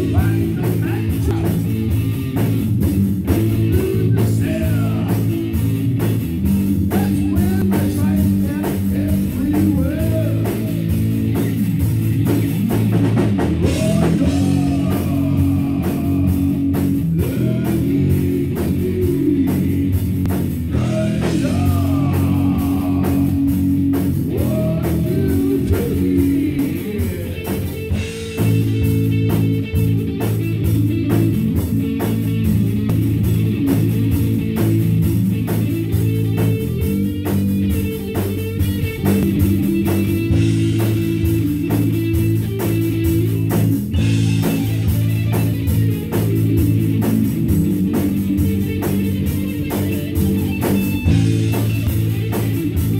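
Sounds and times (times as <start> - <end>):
drum kit: 0.0 - 52.9
electric guitar bending notes: 0.0 - 52.9.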